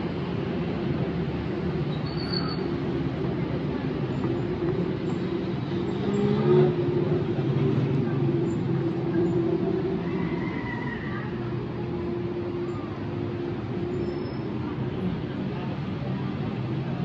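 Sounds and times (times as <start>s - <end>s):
car traffic hum: 0.0s - 17.0s.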